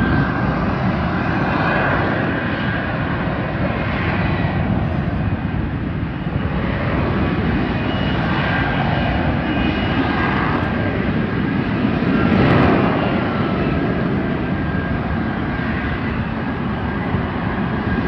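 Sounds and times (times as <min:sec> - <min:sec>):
passing aircraft engine: 0:00.0 - 0:18.0.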